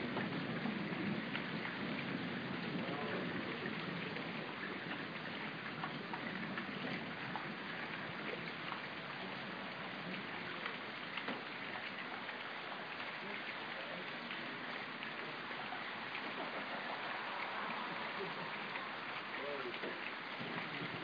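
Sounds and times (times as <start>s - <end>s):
raindrops ticking close by: 0.0s - 21.0s
steady rain falling: 0.0s - 21.0s.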